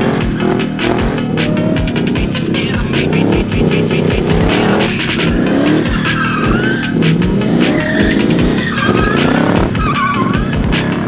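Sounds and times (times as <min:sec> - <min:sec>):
background music with steady beat: 0:00.0 - 0:11.0
car engine revving: 0:00.0 - 0:11.0
tyres squealing: 0:00.0 - 0:11.0.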